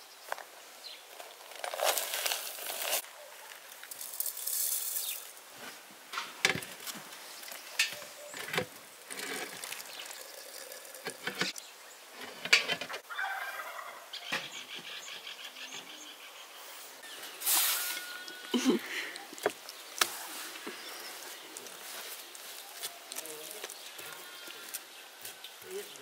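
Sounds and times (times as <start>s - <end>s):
loose tea rustling: 0.3s - 13.0s, 17.0s - 26.0s.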